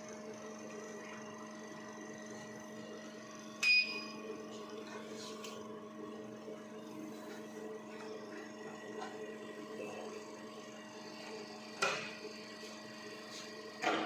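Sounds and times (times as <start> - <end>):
electrical hum of equipment: 0.0 - 14.0.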